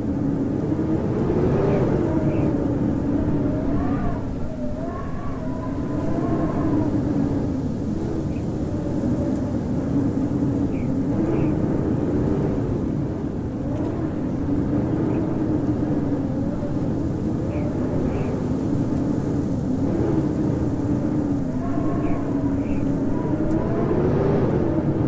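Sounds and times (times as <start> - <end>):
howling wind: 0.0 - 25.0.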